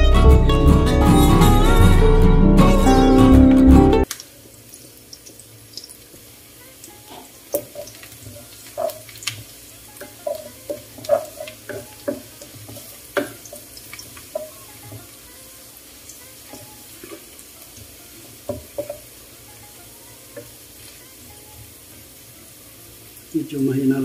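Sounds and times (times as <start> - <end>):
garlic sizzling in oil: 4.0 - 24.0.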